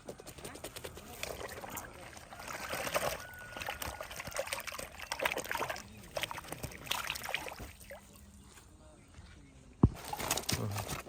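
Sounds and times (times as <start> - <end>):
water splashing and trickling: 0.0 - 8.8, 10.0 - 11.0.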